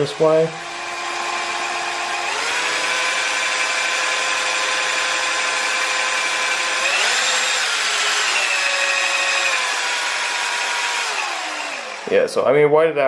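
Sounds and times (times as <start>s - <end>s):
drill spinning generator motor whine: 0.0s - 12.2s.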